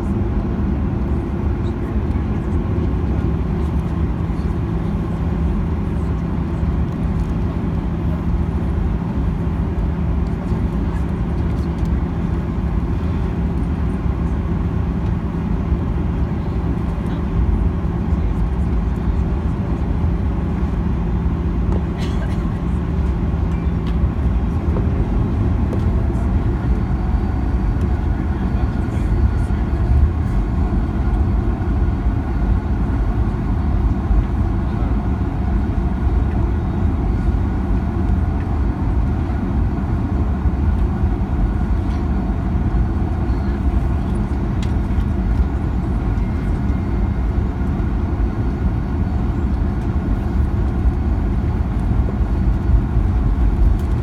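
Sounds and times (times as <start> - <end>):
jet engines rumbling at taxi: 0.0 - 54.0.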